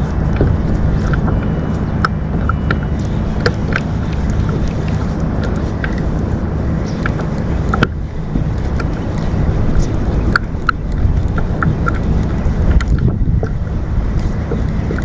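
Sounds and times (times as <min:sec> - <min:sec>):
small clicks and splashes: 0:00.0 - 0:15.0
wind rumbling on microphone: 0:00.0 - 0:15.0.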